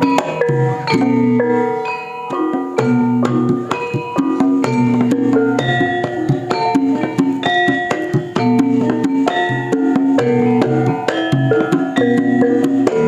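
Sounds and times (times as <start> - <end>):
drum strokes: 0.0 - 13.0
metallophones struck in rhythm: 0.0 - 13.0.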